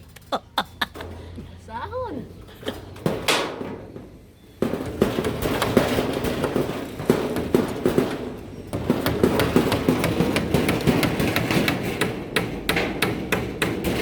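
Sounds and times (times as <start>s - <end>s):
hammers striking: 0.8s - 14.0s.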